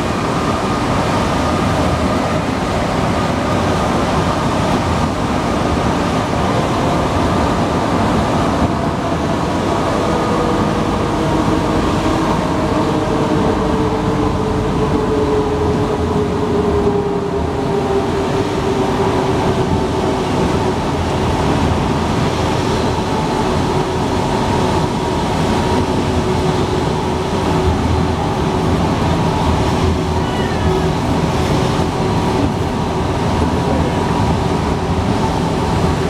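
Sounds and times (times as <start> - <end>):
metro train rumbling: 0.0 - 36.0
train whine: 0.0 - 36.0.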